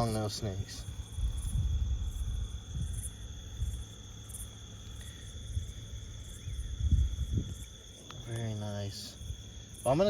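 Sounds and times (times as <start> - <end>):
night insects trilling: 0.0 - 10.0
wind rumbling on microphone: 0.0 - 10.0.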